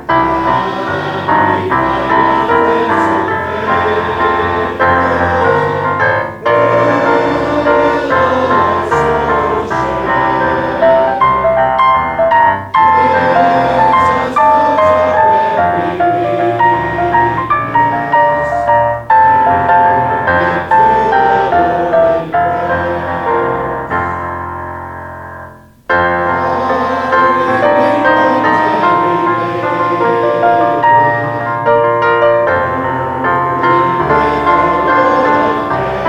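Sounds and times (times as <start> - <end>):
hymn played on piano: 0.0 - 36.0.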